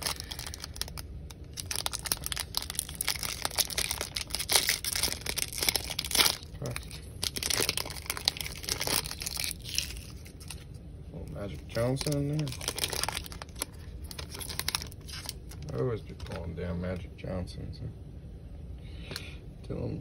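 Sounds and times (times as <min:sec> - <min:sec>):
foil wrapper crinkling: 0:00.0 - 0:16.5.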